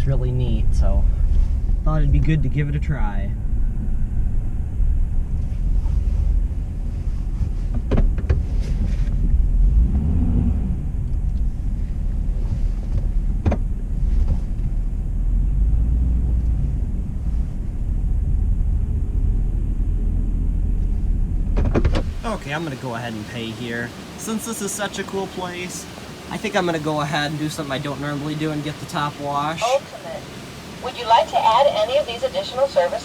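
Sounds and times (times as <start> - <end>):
car engine and tyres rumbling: 0.0 - 33.0.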